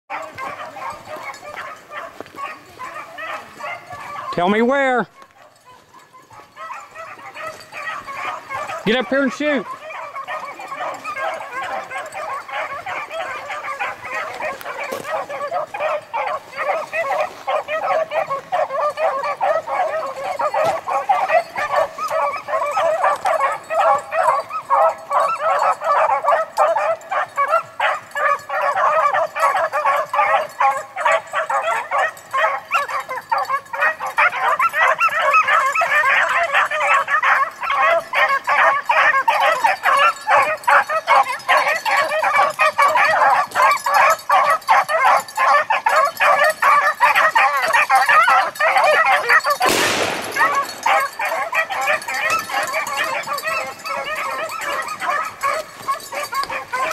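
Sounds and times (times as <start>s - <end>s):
pack of dogs baying: 0.1s - 56.9s.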